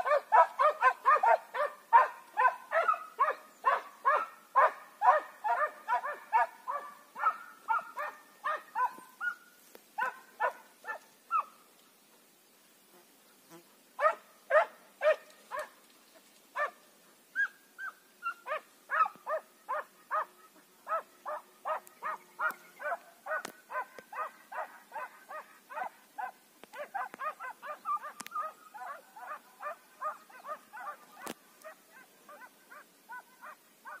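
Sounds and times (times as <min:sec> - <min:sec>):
hounds baying: 0:00.0 - 0:09.4, 0:10.0 - 0:11.5, 0:17.4 - 0:34.0.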